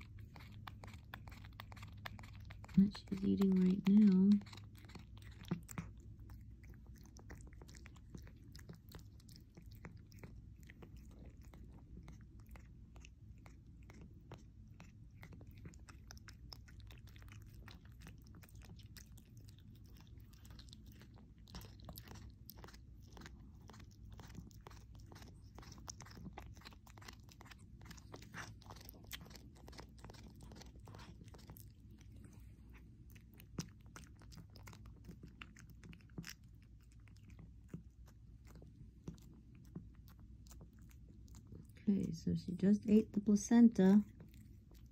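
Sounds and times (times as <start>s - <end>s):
cat chewing wetly: 0.0s - 44.9s.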